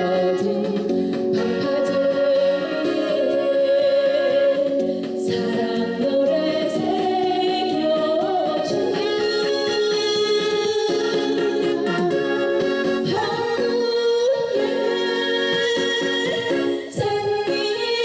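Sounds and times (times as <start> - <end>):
backing music with guitar: 0.0 - 17.8
woman singing: 0.0 - 18.0.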